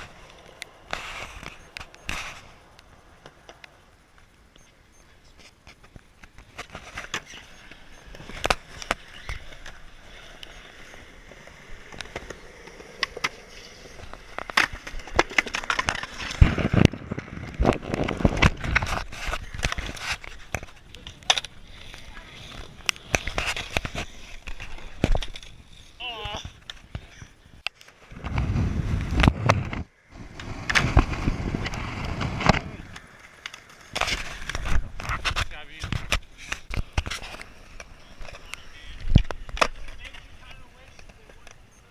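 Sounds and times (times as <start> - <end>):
skateboard wheels rolling on pavement: 0.0 - 41.9
skateboard clacking on ground: 5.7 - 28.0, 30.4 - 41.9.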